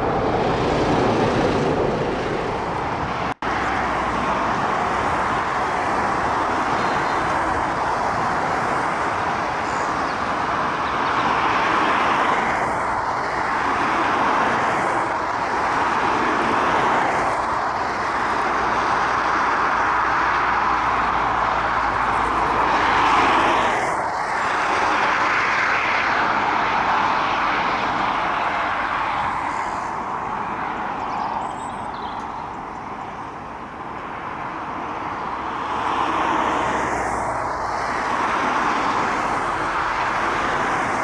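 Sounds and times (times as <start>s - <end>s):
jet airliner engines rushing: 0.0s - 41.0s.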